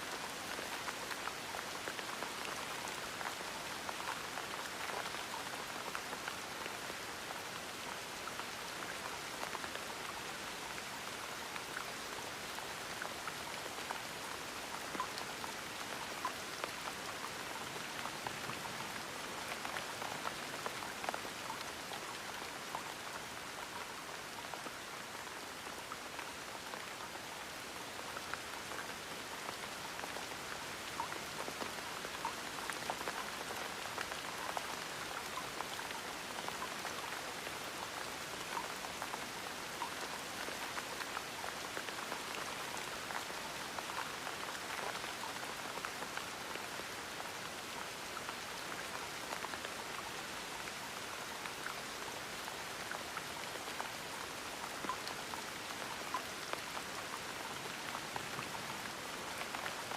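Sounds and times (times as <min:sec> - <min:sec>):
gentle rain pattering: 0:00.0 - 0:59.9.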